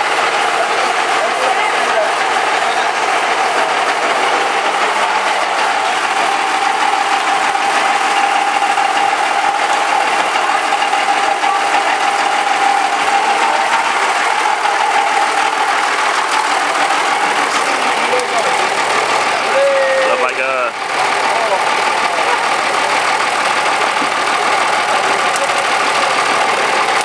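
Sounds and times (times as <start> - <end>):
machinery running with steady whine: 0.0 - 27.0.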